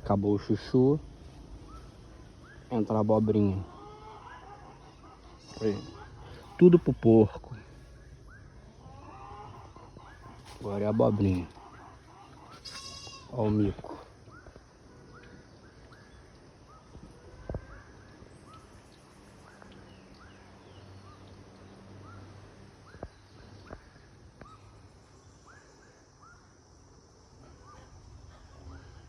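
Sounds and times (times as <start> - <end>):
chirping animal calls: 1.5 - 29.0.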